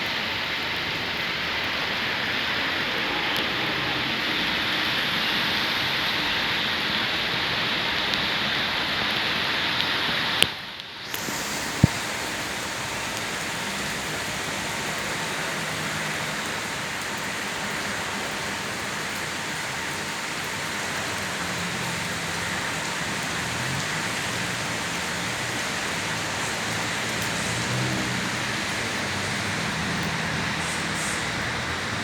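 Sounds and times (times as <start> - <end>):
rain on hard surfaces: 0.0 - 32.0.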